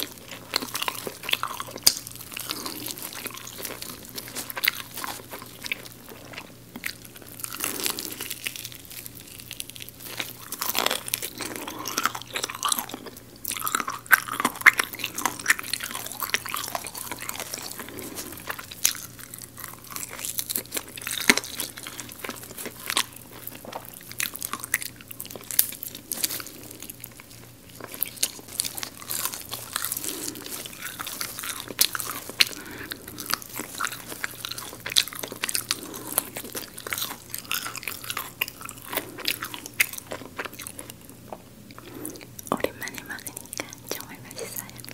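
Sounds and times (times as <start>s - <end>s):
crunching fried chicken: 0.0s - 44.9s
soft chewing: 0.0s - 44.9s.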